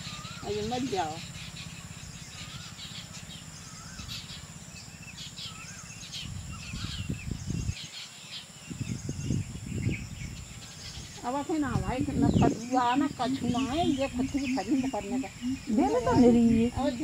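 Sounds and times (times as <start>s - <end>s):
low rumbling noise: 0.0s - 7.9s, 8.6s - 17.0s
small birds chirping: 0.0s - 17.0s.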